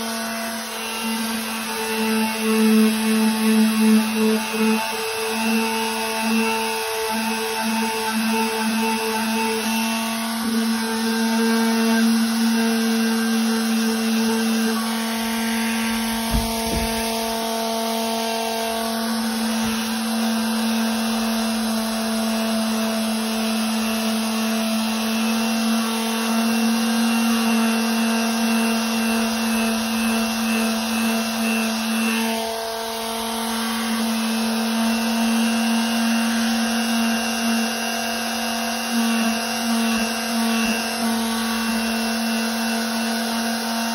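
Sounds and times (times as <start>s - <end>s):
orbital sander humming: 0.0s - 43.9s.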